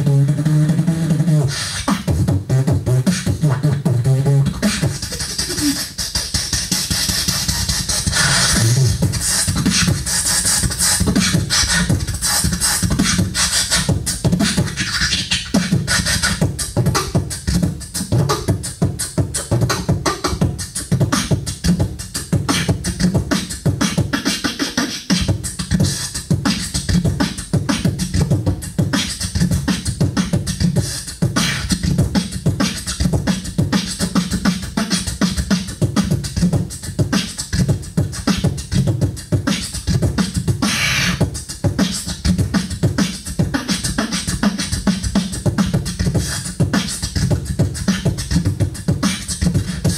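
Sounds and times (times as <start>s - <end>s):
person beatboxing into a microphone: 0.0s - 49.9s.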